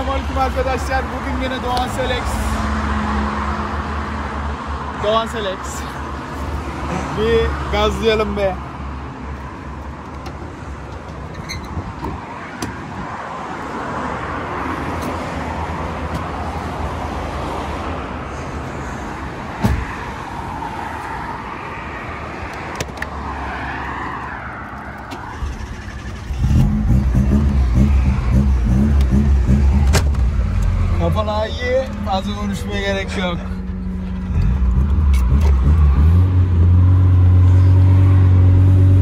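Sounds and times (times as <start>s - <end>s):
road noise: 0.0s - 39.0s.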